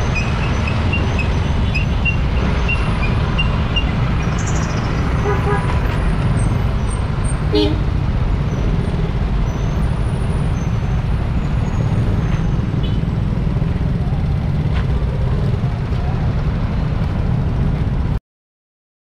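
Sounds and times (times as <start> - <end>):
cars and motorcycles: 0.0 - 18.2
road noise: 0.0 - 18.2.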